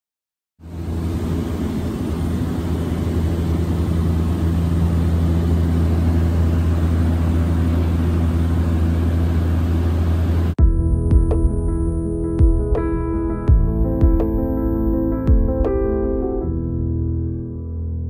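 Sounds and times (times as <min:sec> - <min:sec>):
turboprop engines droning in cabin: 0:00.6 - 0:17.2.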